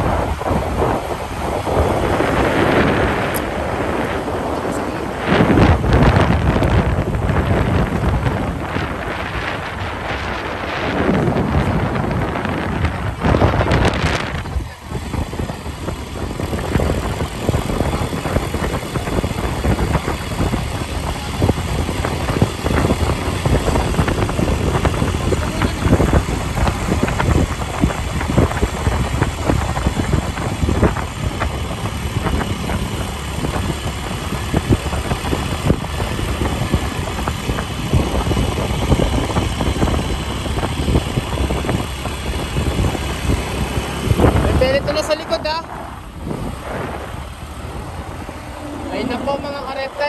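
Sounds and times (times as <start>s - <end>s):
vehicle engine running: 0.0s - 50.0s
wind noise on microphone: 0.0s - 50.0s.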